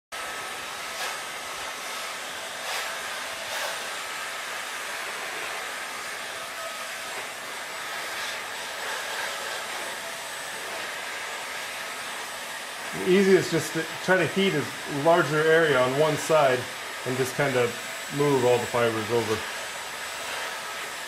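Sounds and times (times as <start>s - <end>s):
heat gun blowing hot air: 0.1s - 21.0s.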